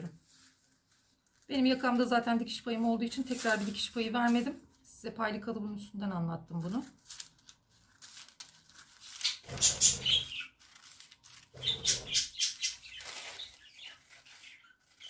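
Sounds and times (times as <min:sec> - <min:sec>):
paper rustling: 0:00.0 - 0:02.0, 0:02.6 - 0:04.6, 0:06.6 - 0:15.0.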